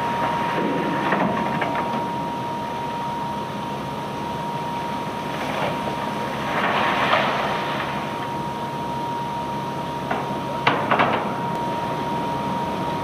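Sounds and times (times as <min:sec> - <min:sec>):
machinery with thin whine: 0:00.0 - 0:13.0.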